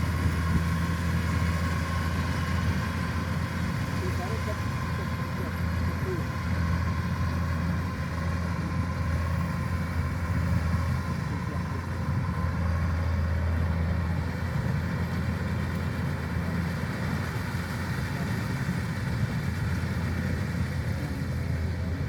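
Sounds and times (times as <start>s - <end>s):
harvester engine hum: 0.0s - 22.0s.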